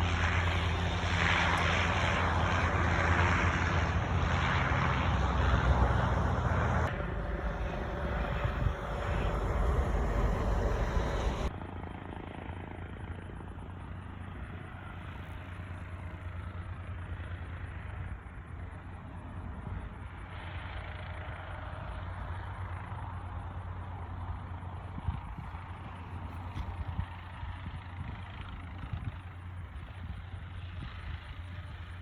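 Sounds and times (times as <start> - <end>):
small aircraft engine droning: 0.0 - 32.0.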